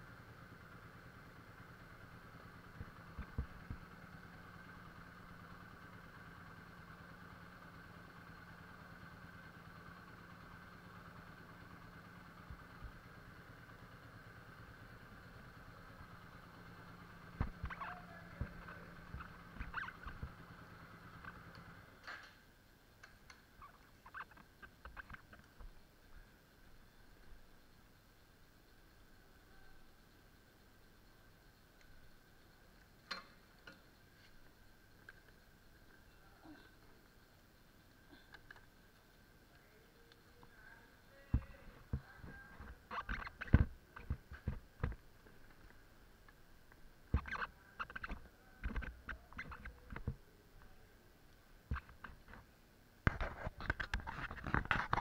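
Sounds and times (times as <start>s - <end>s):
faint low hum: 0.0s - 55.0s
faint clicks and squeaks: 0.1s - 55.0s.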